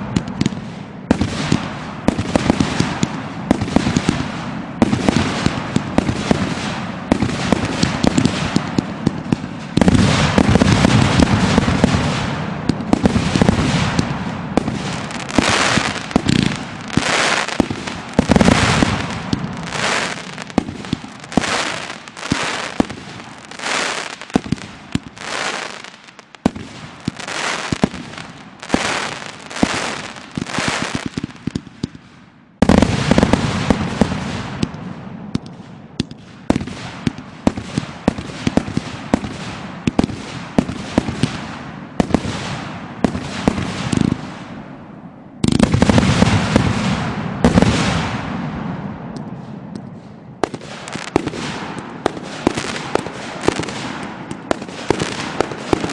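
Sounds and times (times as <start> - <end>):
fireworks crackling and banging: 0.0 - 55.9.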